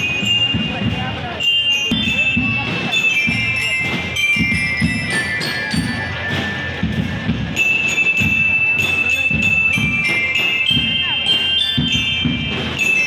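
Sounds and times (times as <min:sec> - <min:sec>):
bell lyres playing melody: 0:00.0 - 0:13.0
low drum beats: 0:00.0 - 0:13.0.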